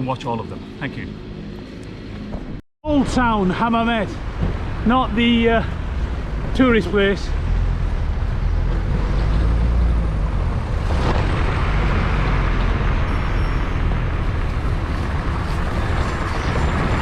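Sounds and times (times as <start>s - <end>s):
busy street traffic: 0.0s - 17.0s.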